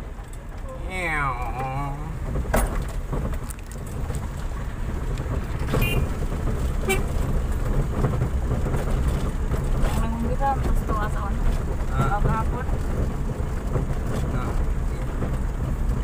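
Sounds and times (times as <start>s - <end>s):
knocks and rattles over bumps: 0.0s - 16.0s
vehicle engine and road rumble: 0.0s - 16.0s.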